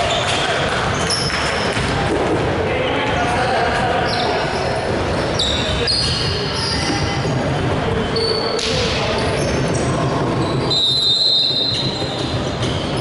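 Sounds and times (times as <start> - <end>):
sneaker squeaks: 0.0 - 2.0, 4.0 - 13.0
scattered voices: 0.0 - 13.0.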